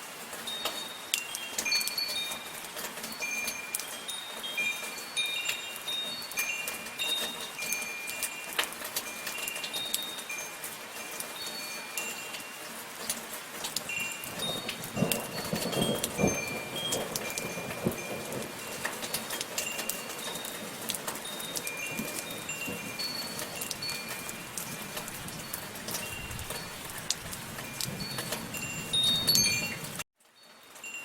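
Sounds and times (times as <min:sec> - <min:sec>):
steady soft rainfall: 0:00.0 - 0:31.0
wind chimes ringing: 0:00.4 - 0:31.0.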